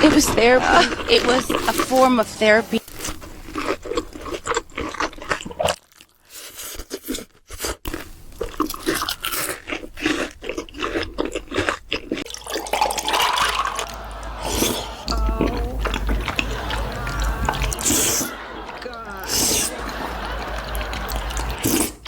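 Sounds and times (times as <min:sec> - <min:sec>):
crunching and chewing food: 0:00.0 - 0:22.0.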